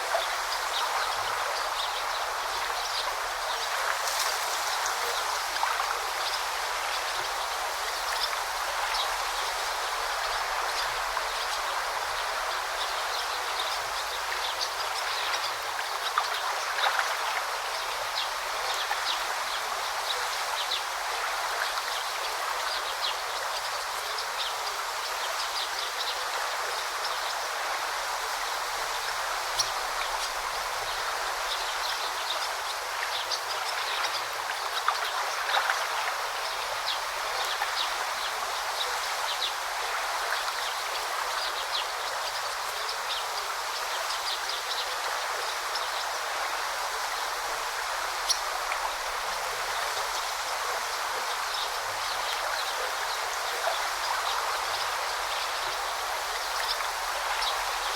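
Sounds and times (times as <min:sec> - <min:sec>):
river babbling over stones: 0:00.0 - 0:57.9.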